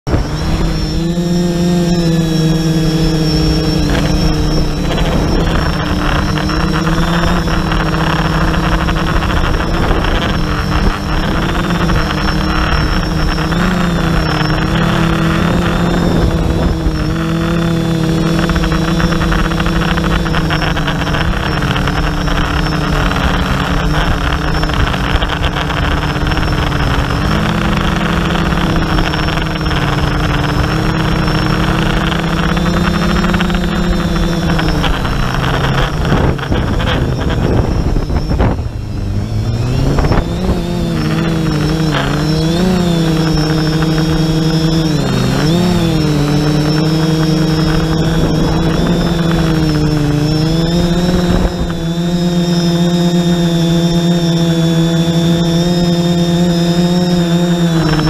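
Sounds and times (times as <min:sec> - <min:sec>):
drone motors buzzing: 0:00.0 - 0:58.0
thin high motor whine: 0:00.0 - 0:58.0.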